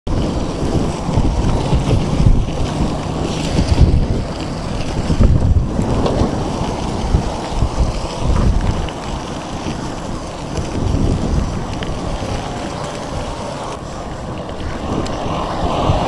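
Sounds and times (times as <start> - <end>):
wind buffeting microphone: 0.1 - 16.0.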